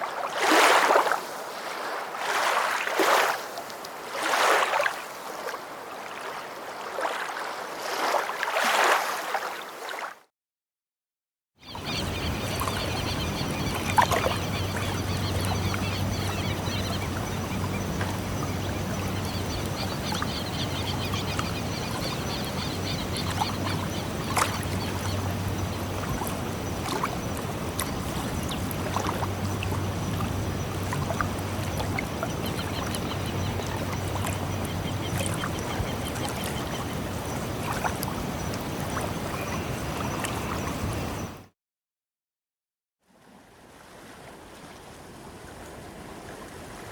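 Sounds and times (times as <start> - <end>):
sea water washing: 0.0 - 10.1, 11.7 - 41.5.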